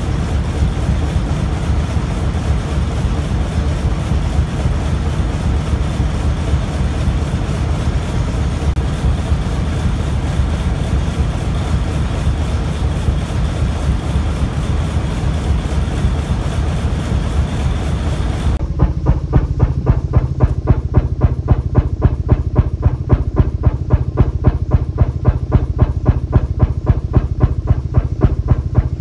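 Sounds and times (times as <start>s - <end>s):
sharp exhaust pops: 0.0s - 29.0s
stationary engine running: 0.0s - 29.0s.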